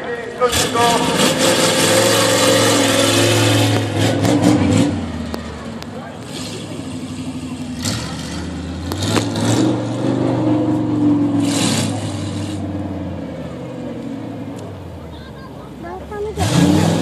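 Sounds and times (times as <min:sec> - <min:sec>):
monster truck engine revving: 0:00.2 - 0:14.6, 0:16.2 - 0:17.0.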